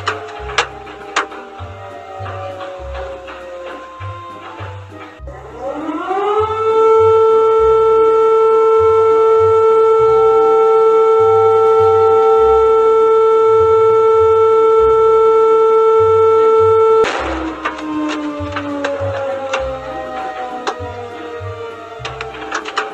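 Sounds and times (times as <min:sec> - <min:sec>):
emergency siren: 0:00.0 - 0:22.9.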